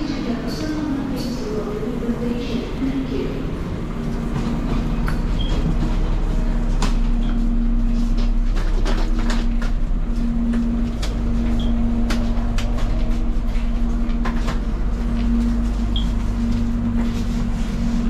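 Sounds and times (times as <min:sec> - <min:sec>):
constant hum: 0:00.0 - 0:18.0
train rumbling: 0:00.0 - 0:18.0.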